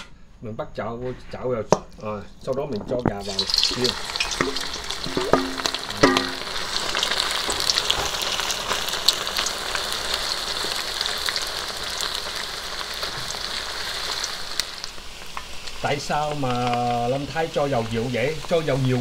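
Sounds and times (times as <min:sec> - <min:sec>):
chicken frying in hot oil: 0:03.2 - 0:19.0.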